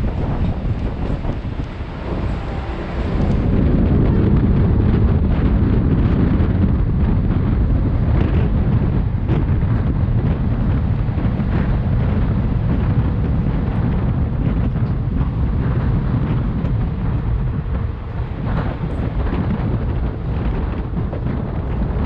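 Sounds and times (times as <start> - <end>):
train low rumble: 0.0 - 22.0
wind buffeting microphone: 0.0 - 22.0.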